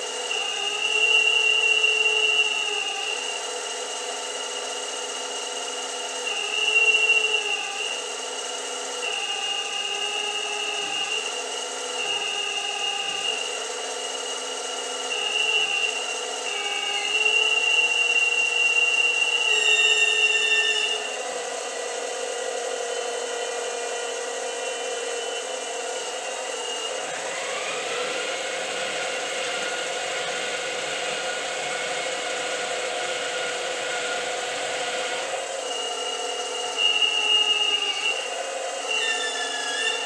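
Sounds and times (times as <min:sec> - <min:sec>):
hydraulic pump whining: 0:00.0 - 0:40.0.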